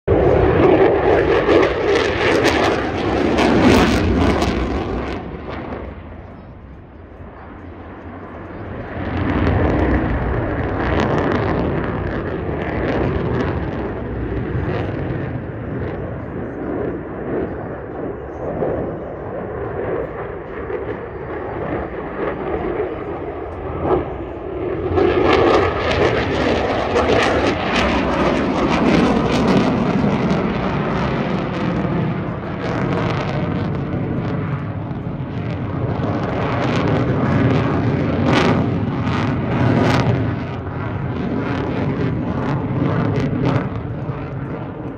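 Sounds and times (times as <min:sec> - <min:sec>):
jet fighter passing: 0:00.0 - 0:44.9.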